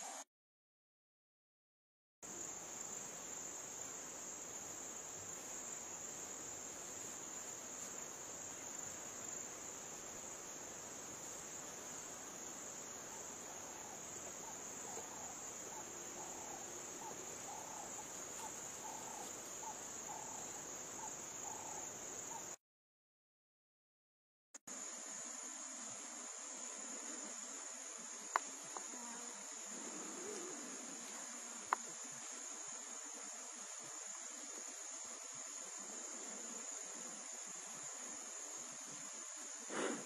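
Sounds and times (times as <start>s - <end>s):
high-pitched insect chorus: 2.2s - 22.6s, 24.7s - 40.0s.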